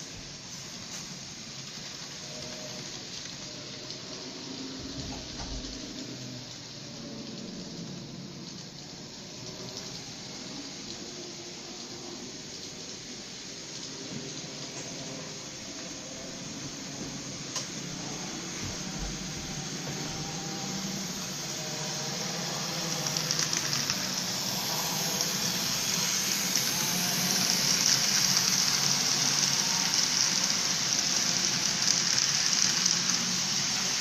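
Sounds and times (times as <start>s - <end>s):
train cars rolling on rails: 0.0s - 34.0s.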